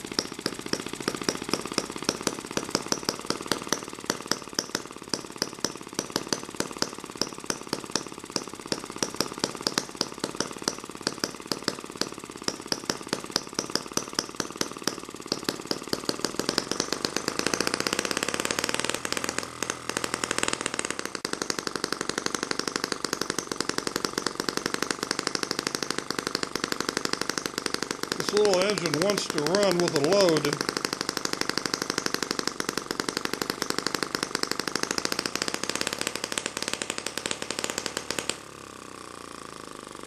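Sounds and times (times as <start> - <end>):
model engine running: 0.0 - 40.0.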